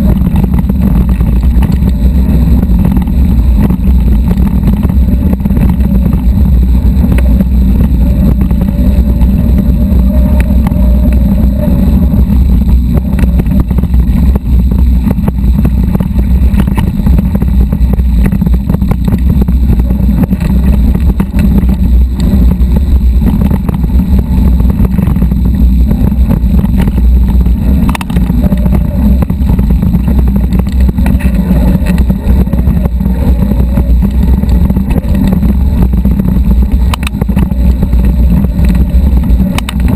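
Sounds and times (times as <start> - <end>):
bike rattling over stones: 0.0 - 39.9
faint motor whine: 0.0 - 39.9
low rumble of wind and vibration: 0.0 - 39.9.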